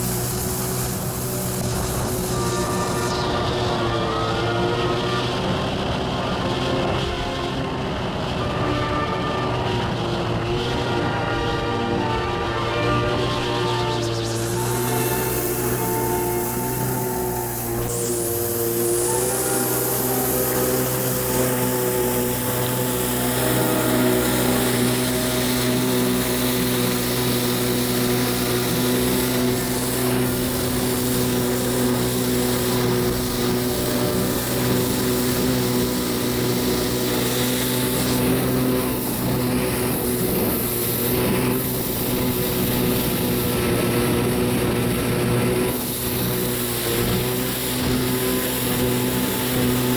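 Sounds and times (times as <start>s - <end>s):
steady hiss: 0.0s - 3.9s, 13.2s - 49.9s
jet ski engine running: 0.0s - 49.9s.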